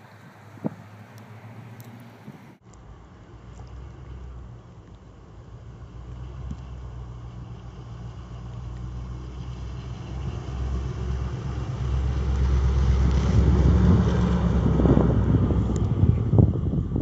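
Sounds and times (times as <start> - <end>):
truck engine rumble: 0.0 - 17.0.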